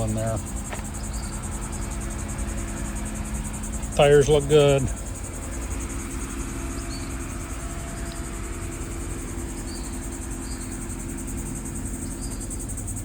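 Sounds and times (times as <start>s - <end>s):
insects trilling: 0.0s - 13.0s
low steady hum: 0.0s - 13.0s.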